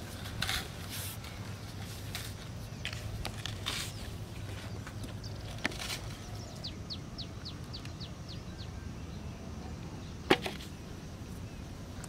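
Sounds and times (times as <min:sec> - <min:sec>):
low outdoor background: 0:00.0 - 0:12.0.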